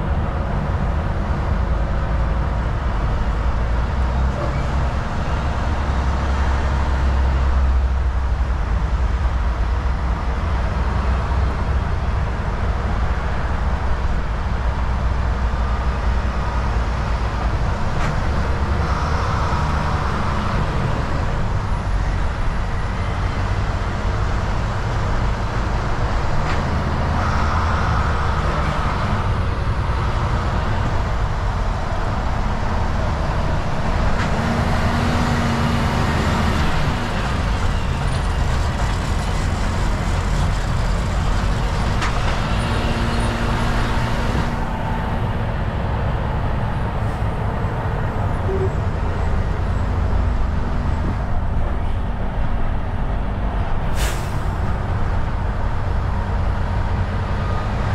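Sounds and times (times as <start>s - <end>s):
truck engine rumble: 0.0s - 57.9s
tyre and road noise: 0.0s - 57.9s.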